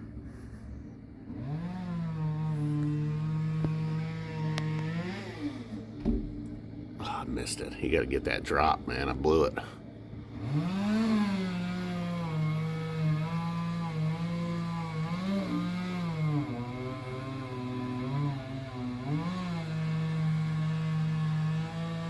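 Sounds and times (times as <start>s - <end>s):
chainsaw cutting wood: 0.0s - 8.0s, 8.7s - 22.0s.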